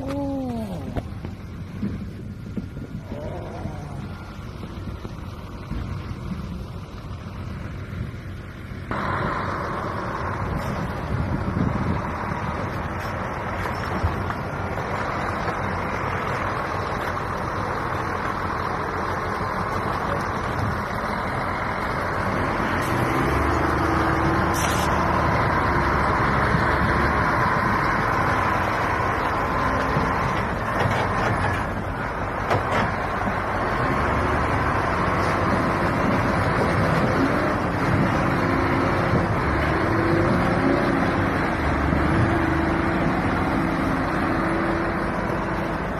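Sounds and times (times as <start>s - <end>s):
heavy truck engines under load: 0.0s - 45.9s
trailer dragging through ice: 0.0s - 45.9s.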